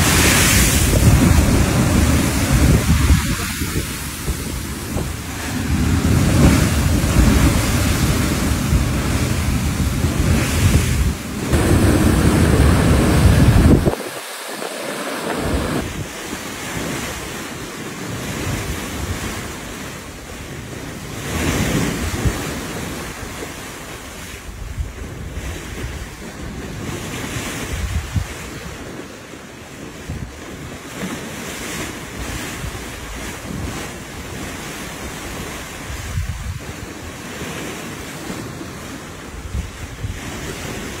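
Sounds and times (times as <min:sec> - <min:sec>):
wind gusting on microphone: 0:00.0 - 0:29.2, 0:32.1 - 0:41.0
sea waves rushing past ship: 0:00.0 - 0:41.0.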